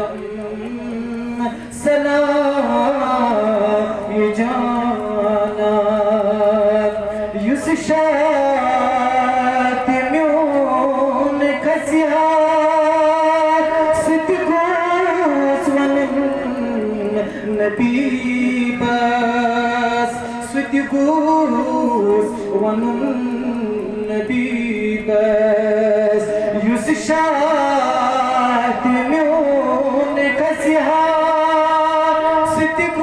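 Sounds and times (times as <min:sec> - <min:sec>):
man singing: 0:00.0 - 0:33.0.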